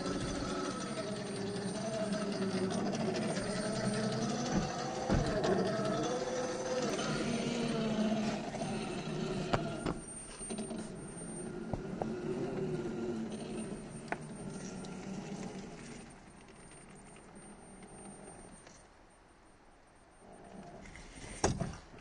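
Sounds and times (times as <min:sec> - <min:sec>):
electric motor whining: 0:00.0 - 0:18.8.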